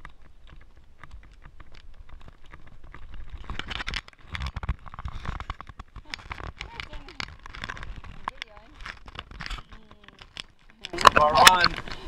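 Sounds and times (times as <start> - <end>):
camera handling clicks and rustles: 1.7 - 12.0.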